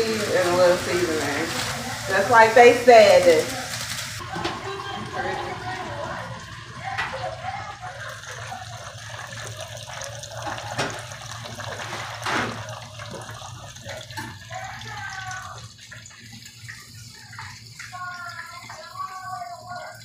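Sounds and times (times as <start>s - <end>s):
fish frying in hot oil: 0.0s - 20.0s.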